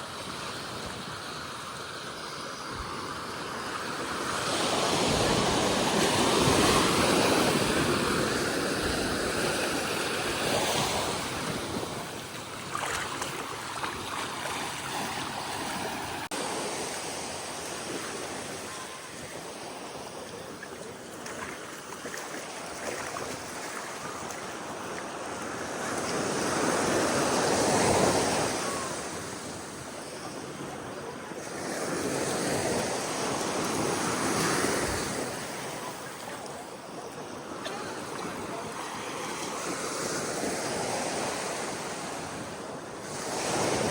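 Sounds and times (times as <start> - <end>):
ocean surf washing onto beach: 0.0 - 43.9.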